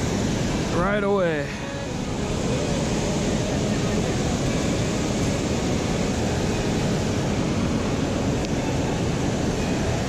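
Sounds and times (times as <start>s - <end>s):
river water rushing over spillway: 0.0s - 10.0s.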